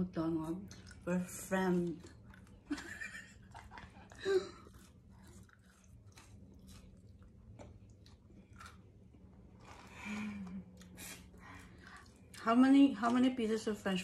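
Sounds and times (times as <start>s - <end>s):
faint steady hum: 0.0s - 14.0s
chewing crunchy food: 0.3s - 12.5s.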